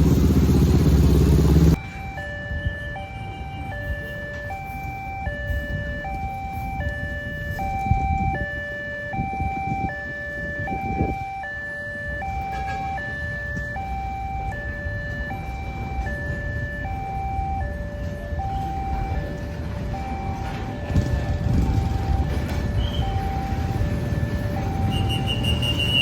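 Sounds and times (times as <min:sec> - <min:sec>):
low traffic rumble: 0:00.0 - 0:26.0
level crossing alarm tones: 0:01.7 - 0:26.0.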